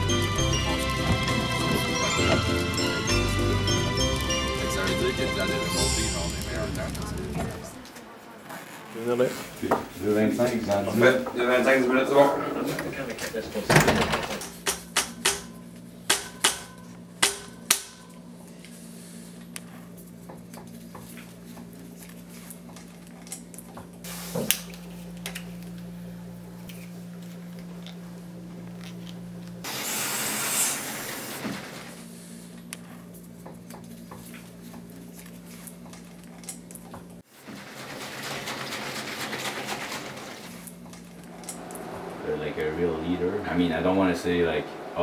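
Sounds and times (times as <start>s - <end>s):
low electrical hum: 0.0s - 37.4s, 40.2s - 45.0s.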